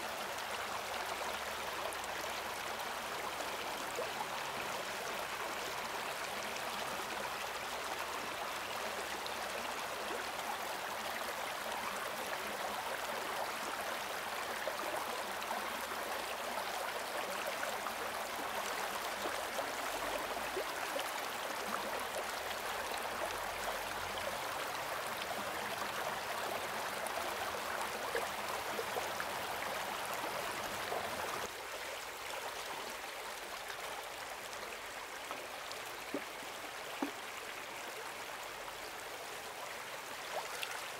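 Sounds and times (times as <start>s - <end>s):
stream running over stones: 0.0s - 40.9s.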